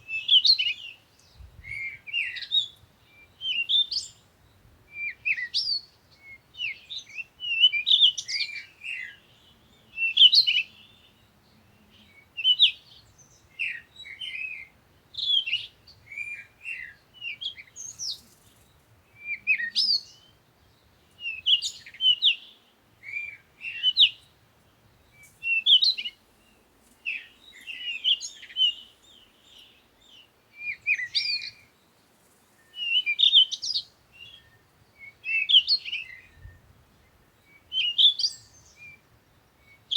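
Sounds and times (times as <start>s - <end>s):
birds chirping and twittering: 0.1s - 39.9s.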